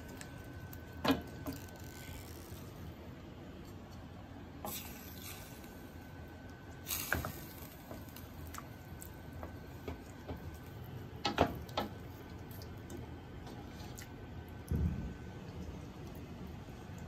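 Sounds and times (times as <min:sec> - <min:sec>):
food ticking and crackling in pot: 0:00.0 - 0:17.0.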